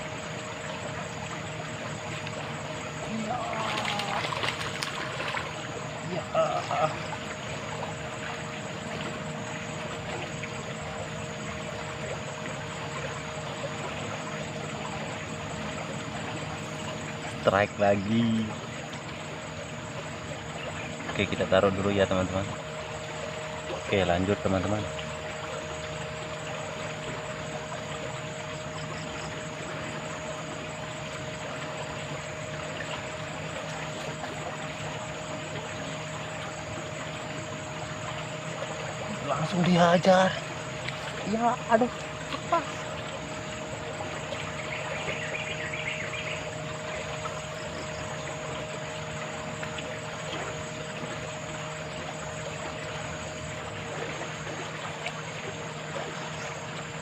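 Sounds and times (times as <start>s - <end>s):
faint constant hum: 0.0s - 57.0s
flowing water rushing: 0.0s - 57.0s.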